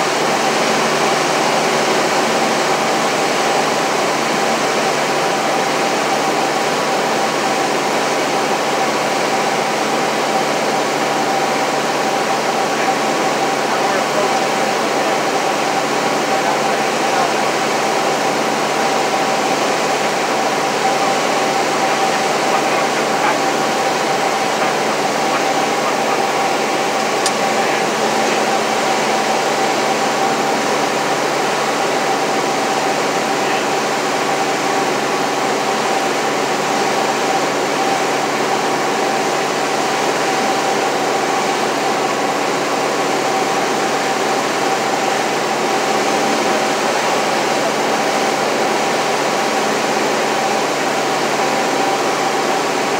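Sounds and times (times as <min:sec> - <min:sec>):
aircraft engine and propeller: 0:00.0 - 0:52.9.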